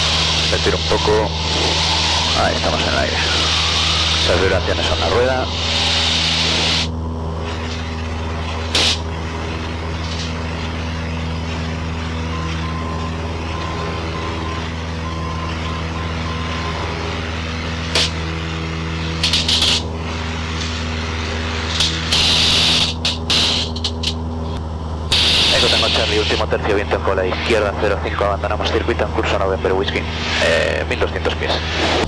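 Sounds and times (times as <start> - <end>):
airplane engine and propeller: 0.0 - 32.0.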